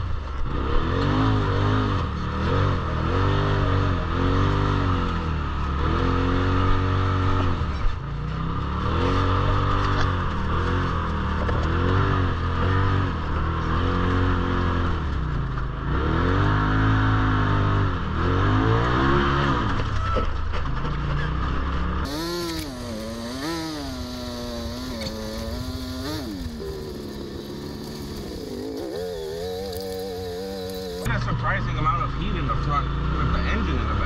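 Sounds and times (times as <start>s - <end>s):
off-road vehicle engine revving: 0.0s - 34.0s.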